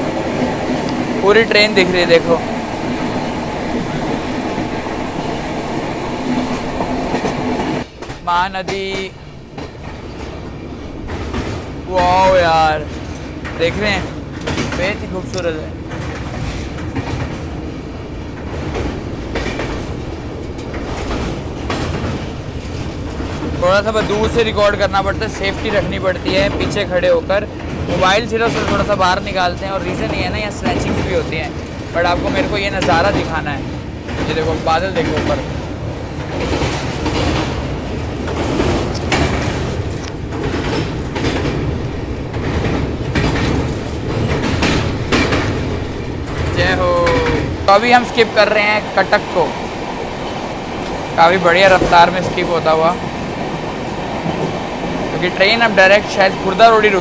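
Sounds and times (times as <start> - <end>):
train wheels rumbling on bridge: 0.0 - 57.0.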